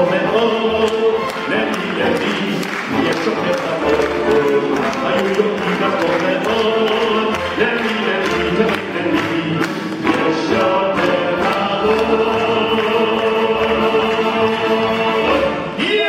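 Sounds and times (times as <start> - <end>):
symphony orchestra playing: 0.0 - 16.0.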